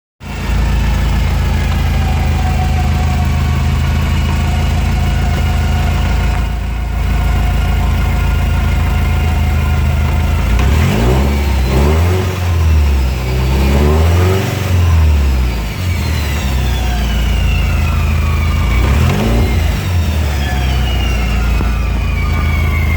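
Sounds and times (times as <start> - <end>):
car engine idling and revving: 0.2 - 22.9.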